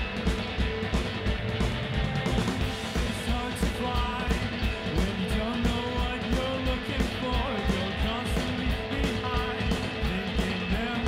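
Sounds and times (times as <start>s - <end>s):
electric guitars: 0.0s - 11.0s
steady drum beat: 0.0s - 11.0s.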